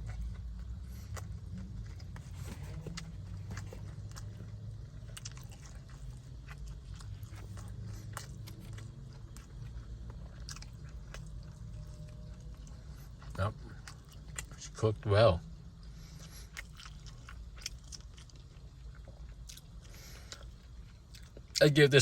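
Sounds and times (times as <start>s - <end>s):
person chewing: 0.0s - 14.6s, 15.8s - 21.6s
steady low hum: 0.0s - 22.0s.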